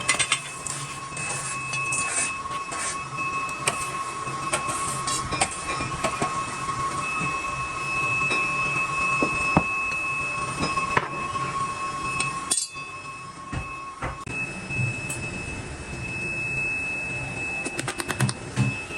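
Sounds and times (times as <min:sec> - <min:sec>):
metalworking machinery whine: 0:00.0 - 0:18.9.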